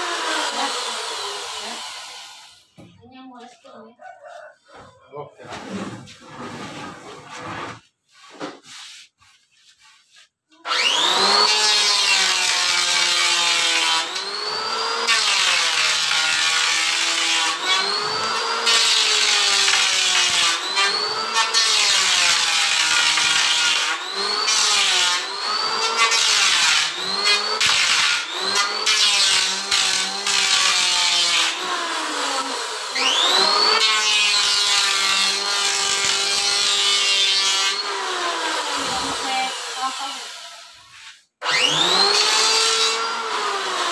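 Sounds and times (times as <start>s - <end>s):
electric wood planer cutting: 0.0s - 2.7s, 10.6s - 43.9s.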